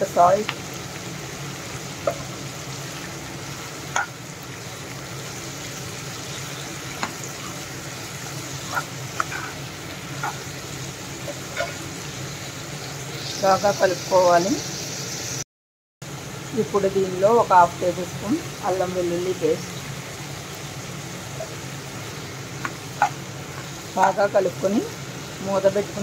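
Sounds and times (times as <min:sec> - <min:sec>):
vegetables sizzling in oil: 0:00.0 - 0:15.4, 0:16.0 - 0:26.0.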